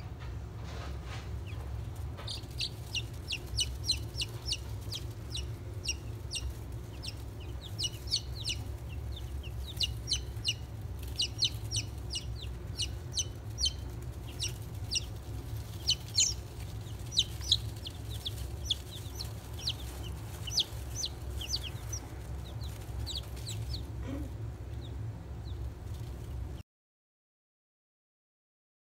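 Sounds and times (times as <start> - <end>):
low steady hum: 0.0 - 26.6
chicks peeping: 1.0 - 26.6.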